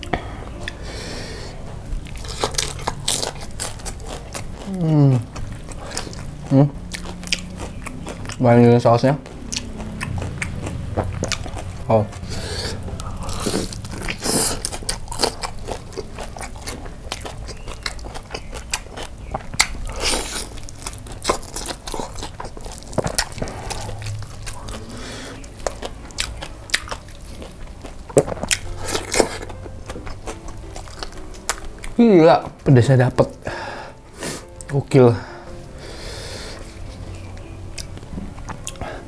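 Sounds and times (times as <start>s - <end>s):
crunchy chewing: 2.0s - 39.0s.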